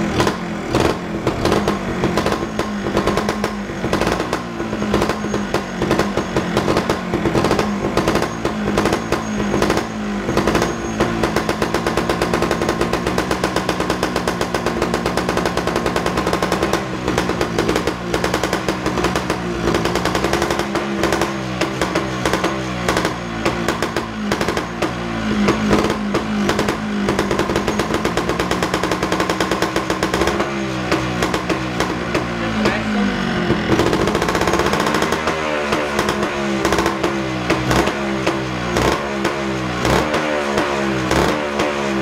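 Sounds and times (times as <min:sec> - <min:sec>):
two-stroke motorcycle engine revving: 0:00.0 - 0:42.0.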